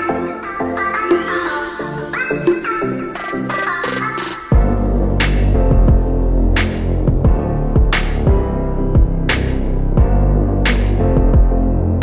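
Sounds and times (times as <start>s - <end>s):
rising synth sweep: 0.0s - 11.2s
synthesizer chords: 0.0s - 12.0s.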